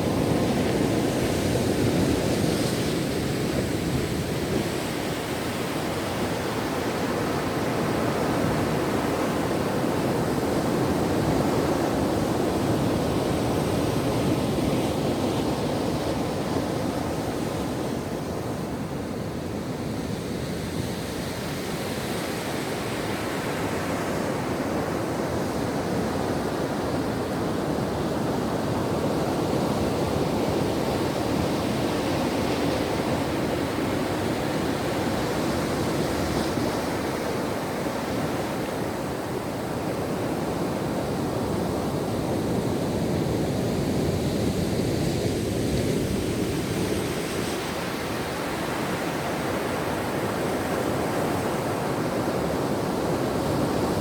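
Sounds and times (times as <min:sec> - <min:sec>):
waves washing on shore: 0:00.0 - 0:54.0.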